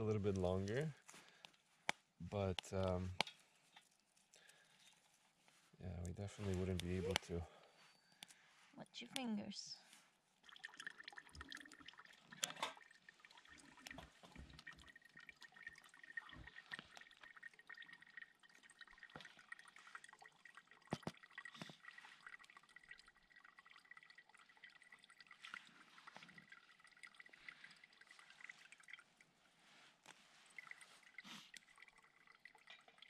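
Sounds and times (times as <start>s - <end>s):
water dribbling into plastic bottle: 0.0s - 8.4s, 10.2s - 33.0s.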